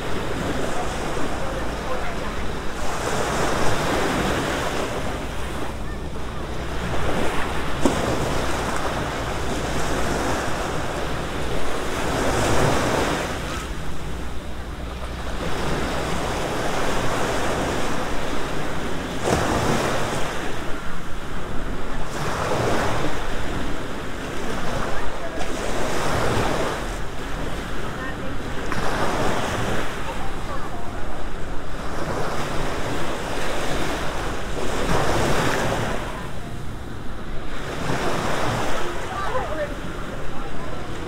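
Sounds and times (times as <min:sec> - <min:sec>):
small waves breaking on sand: 0:00.0 - 0:41.0.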